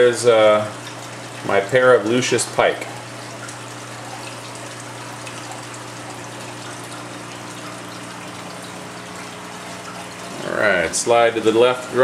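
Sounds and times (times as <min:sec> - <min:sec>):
low pump hum: 0:00.0 - 0:12.0
moving water: 0:00.0 - 0:12.0.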